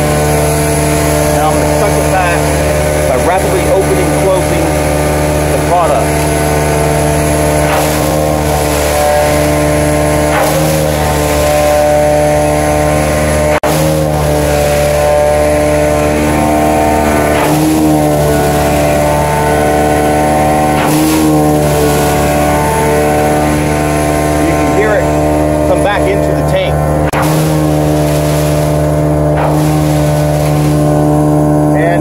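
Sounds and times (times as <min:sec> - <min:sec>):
air rushing through product line: 0:00.0 - 0:32.0
truck engine at high revs: 0:00.0 - 0:32.0.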